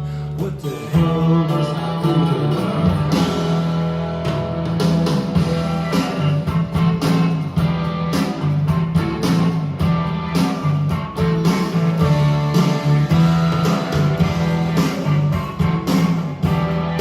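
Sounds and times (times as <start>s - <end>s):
instrumental rock music: 0.0s - 17.0s.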